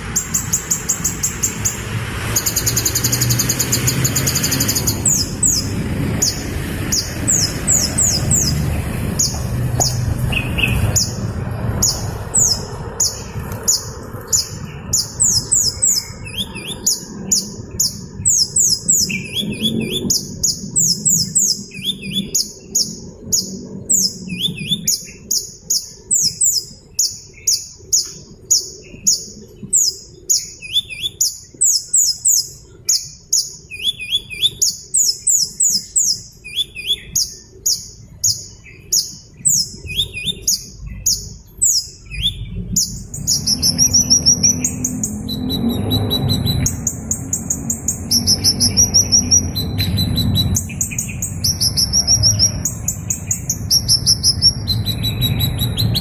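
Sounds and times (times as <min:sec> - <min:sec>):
low rumbling background noise: 0:00.0 - 0:56.0
small bird chirping: 0:00.0 - 0:56.0.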